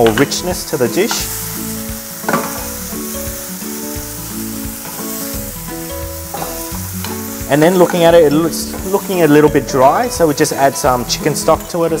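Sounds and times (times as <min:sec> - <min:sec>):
background music: 0:00.0 - 0:12.0
meat sizzling in a frying pan: 0:00.0 - 0:12.0.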